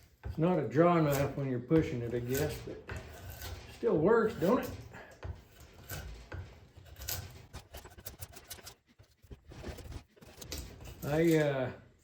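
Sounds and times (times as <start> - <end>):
draw knife scraping wood: 1.0 - 11.5.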